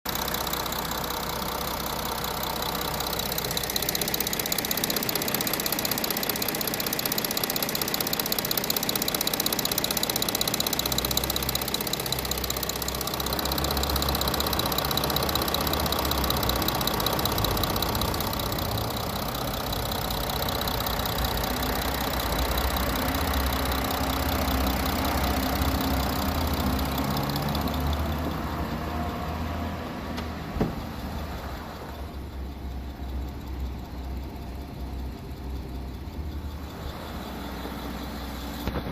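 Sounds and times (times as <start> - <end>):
fast fine engine ticking: 0.0 - 38.9
diesel engine running: 0.1 - 38.9.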